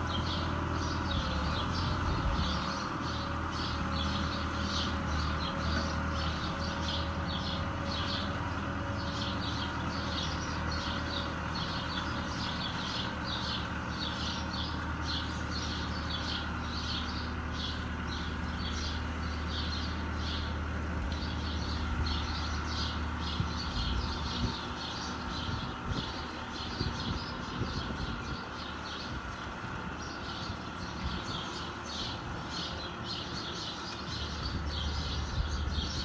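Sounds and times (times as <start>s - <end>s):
tractor diesel engine drone: 0.0s - 36.0s.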